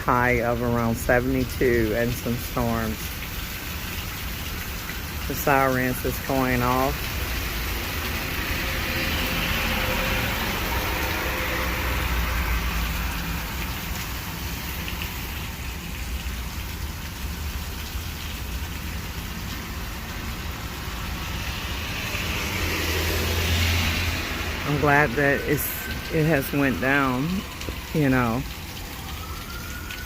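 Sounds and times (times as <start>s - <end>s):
rain hiss: 0.0s - 30.0s
vehicles passing on wet streets: 0.0s - 30.0s.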